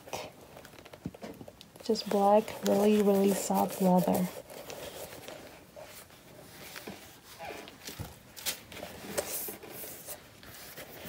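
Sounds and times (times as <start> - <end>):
tissue paper rustling: 1.8 - 11.0.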